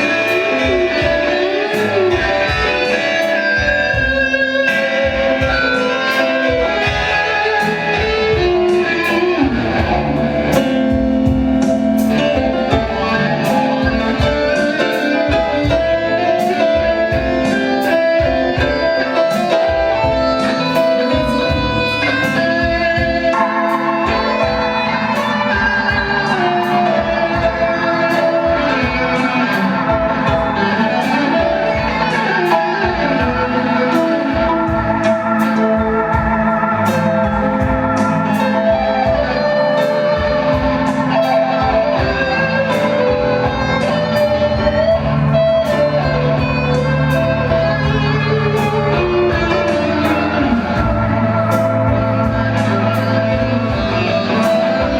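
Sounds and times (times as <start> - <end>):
electric guitar lead: 0.0 - 54.9
live band instrumental: 0.0 - 54.9.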